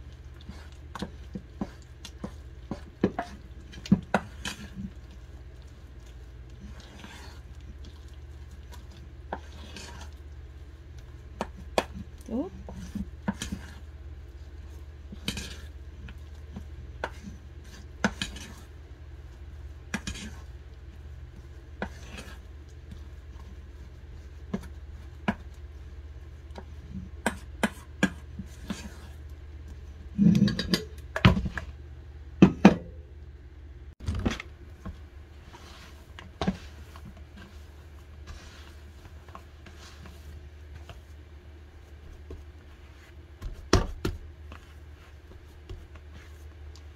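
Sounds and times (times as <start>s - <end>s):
dough kneaded in metal bowl: 0.0s - 33.3s, 33.9s - 46.9s
steady low hum: 0.0s - 46.9s.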